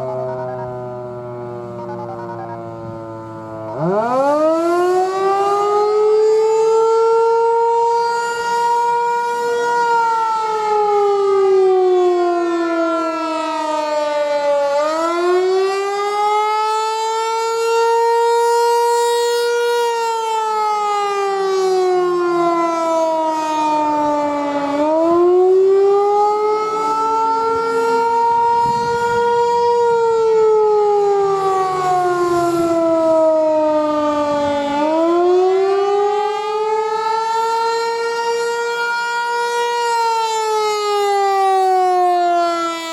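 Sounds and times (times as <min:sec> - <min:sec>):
warning siren wailing: 0:00.0 - 0:42.9.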